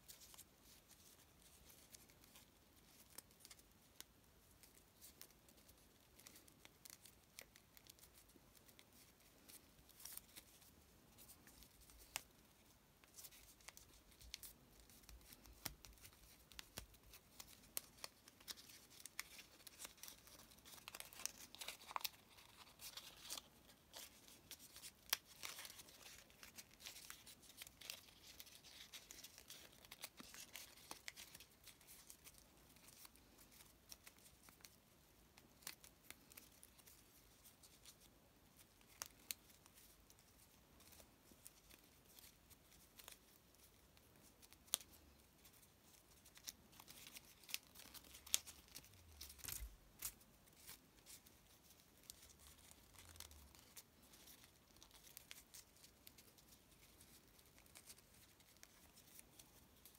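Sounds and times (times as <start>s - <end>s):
paper crinkling and rustling: 0.0s - 59.9s
tiny paper crackles: 0.0s - 59.9s.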